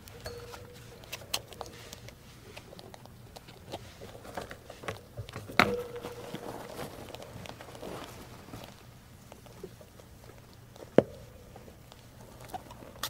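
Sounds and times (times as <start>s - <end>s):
rats crunching food: 0.0s - 13.0s.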